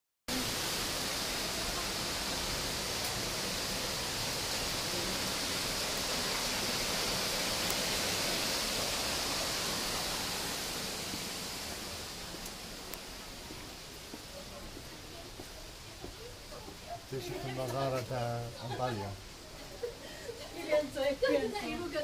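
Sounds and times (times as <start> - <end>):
waterfall rushing: 0.3 - 22.0.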